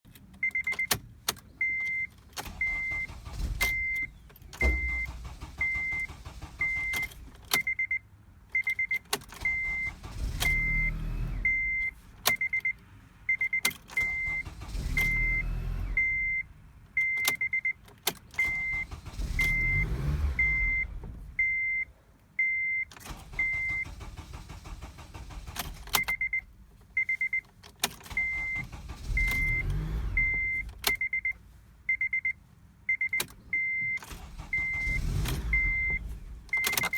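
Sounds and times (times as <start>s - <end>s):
car starter cranking: 0.2s - 7.9s, 8.6s - 12.7s, 13.5s - 21.6s, 22.8s - 26.7s, 27.5s - 31.3s, 33.1s - 36.9s
dashboard warning chime beeping: 0.4s - 1.0s, 1.6s - 17.8s, 18.4s - 36.9s.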